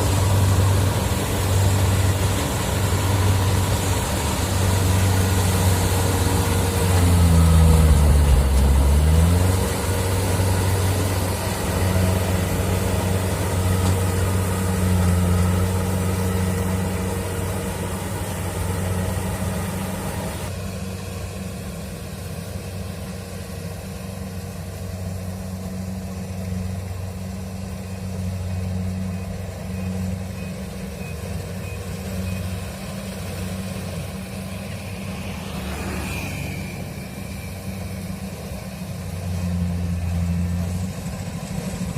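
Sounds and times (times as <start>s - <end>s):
harvester engine running: 0.0s - 41.9s.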